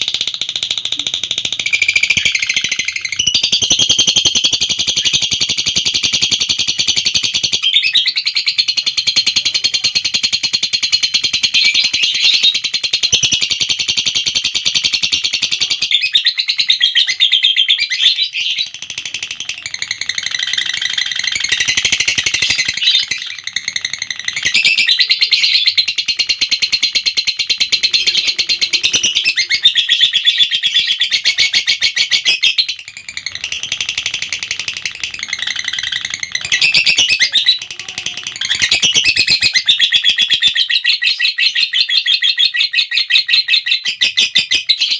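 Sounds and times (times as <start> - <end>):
lovebird chattering chirps: 0.0 - 44.9.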